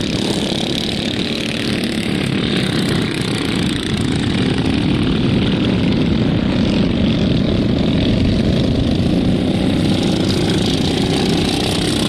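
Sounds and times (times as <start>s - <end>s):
lawn mower engines racing: 0.0s - 12.0s.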